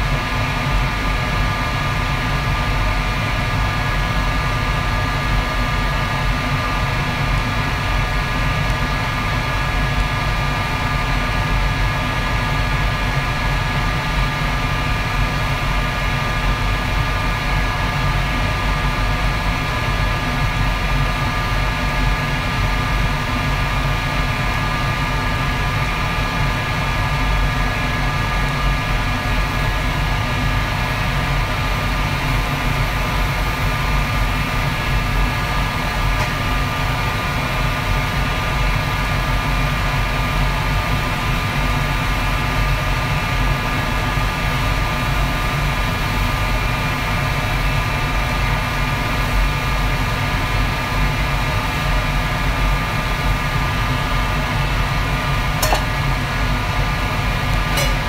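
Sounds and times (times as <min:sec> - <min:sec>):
wok stove roaring: 0:00.0 - 0:58.0.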